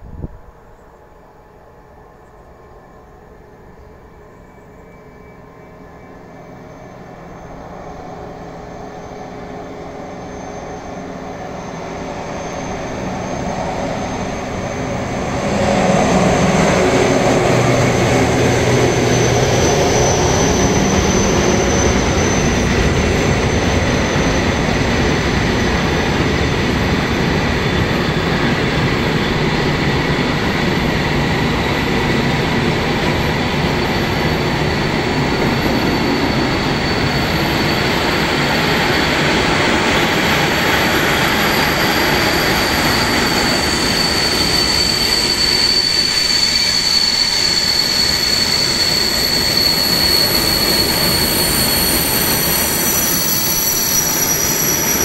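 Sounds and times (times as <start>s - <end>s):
diesel locomotive engine under load: 5.8s - 55.0s.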